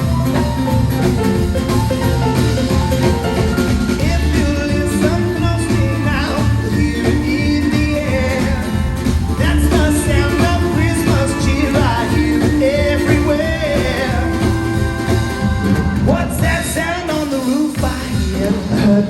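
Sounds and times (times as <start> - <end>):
rock and roll band playing: 0.0 - 19.0.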